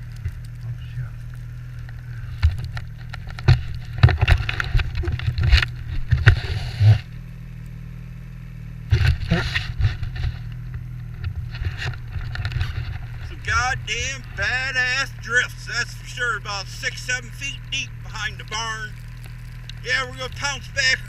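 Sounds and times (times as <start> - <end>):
snowmobile engine drone: 0.0 - 21.0.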